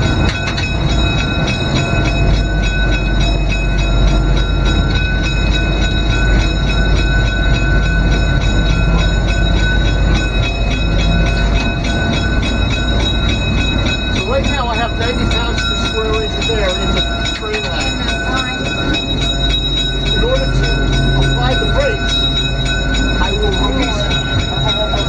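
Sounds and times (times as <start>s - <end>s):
diesel engine rumble: 0.0s - 25.0s.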